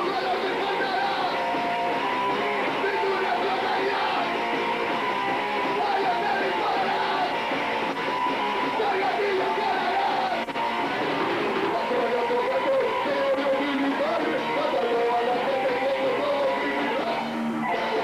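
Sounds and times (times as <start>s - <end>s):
electric guitar: 0.0s - 18.0s
punk band playing live: 0.0s - 18.0s.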